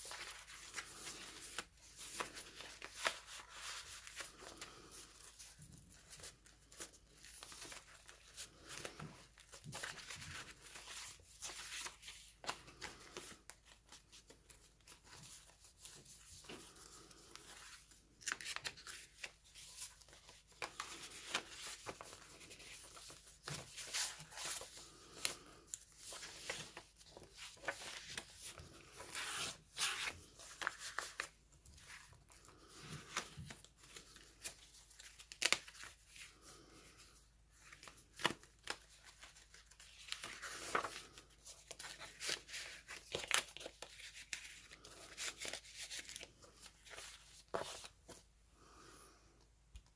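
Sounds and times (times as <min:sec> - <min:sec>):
paper rustling: 0:00.0 - 0:48.3.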